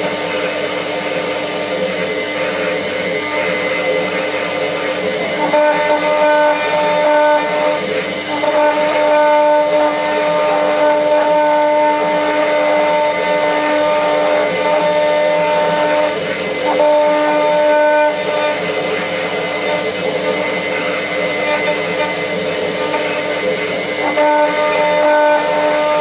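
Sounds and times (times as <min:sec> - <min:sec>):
end mill cutting brass: 0:00.0 - 0:26.0
router spindle whine: 0:00.0 - 0:26.0.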